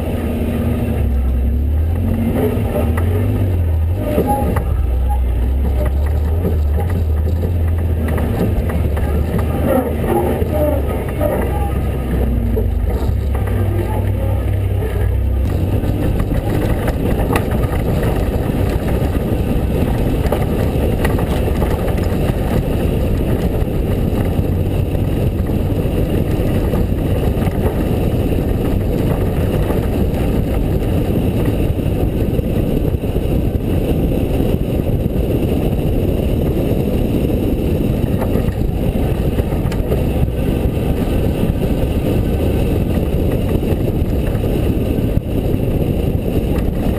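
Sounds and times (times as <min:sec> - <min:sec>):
suspension and chassis rattle: 0:00.0 - 0:46.9
truck engine running: 0:00.0 - 0:46.9
tyres rumbling on rough ground: 0:00.0 - 0:46.9
wind on camera: 0:00.0 - 0:46.9.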